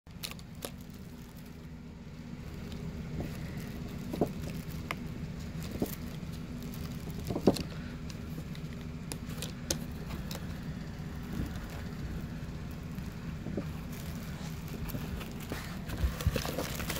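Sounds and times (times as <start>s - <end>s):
steady low hum: 0.1s - 16.9s.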